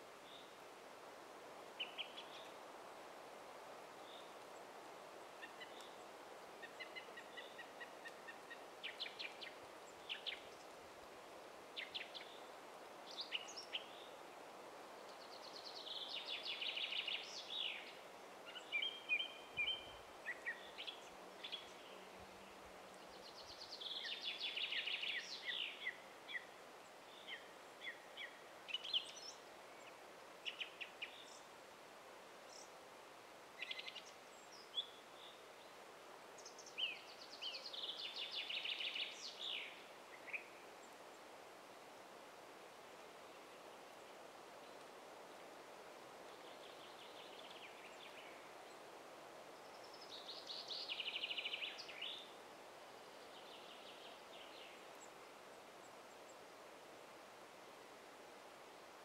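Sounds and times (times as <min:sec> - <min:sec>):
faint background hiss: 0:00.0 - 0:59.0.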